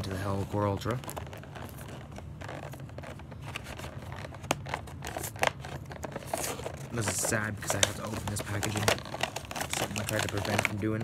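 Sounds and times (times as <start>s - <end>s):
box scraping and rustling: 0.0s - 11.0s.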